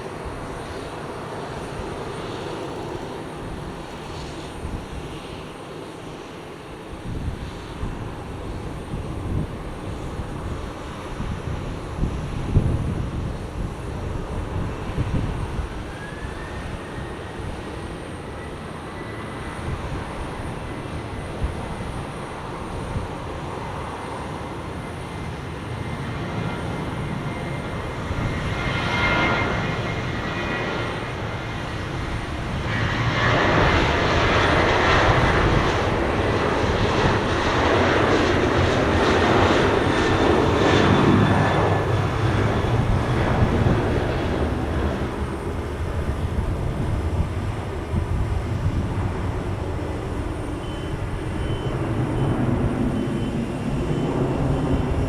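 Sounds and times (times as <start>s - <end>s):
airliner engines whining: 0.0s - 55.0s.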